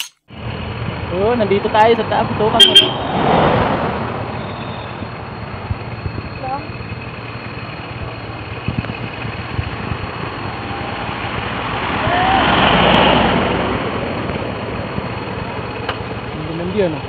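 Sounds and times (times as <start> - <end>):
road noise with engine hum: 0.0 - 17.0
vehicle passing by: 0.3 - 15.6.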